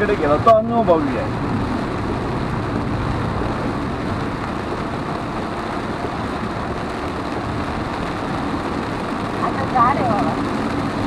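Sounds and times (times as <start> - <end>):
rain on car: 0.0 - 11.0
tyres on wet road: 0.0 - 11.0.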